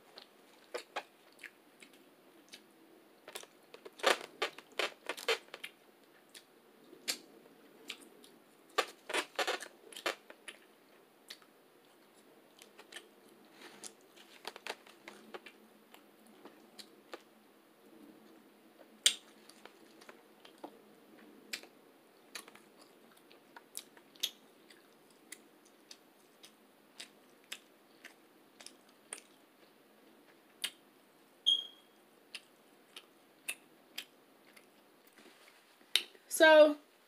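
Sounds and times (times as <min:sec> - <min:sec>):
person chewing food: 0:00.2 - 0:07.2, 0:07.8 - 0:17.3, 0:19.0 - 0:30.8, 0:32.3 - 0:36.2.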